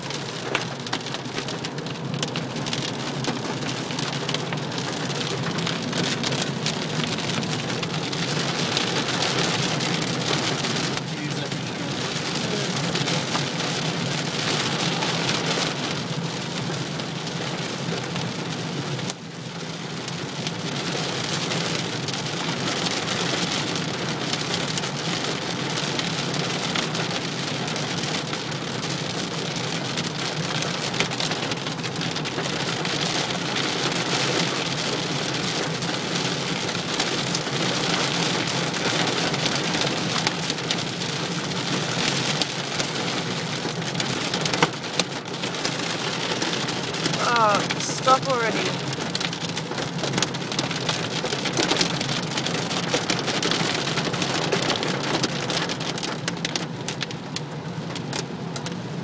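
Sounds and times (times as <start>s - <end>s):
hail and rain drumming on car: 0.0s - 59.0s.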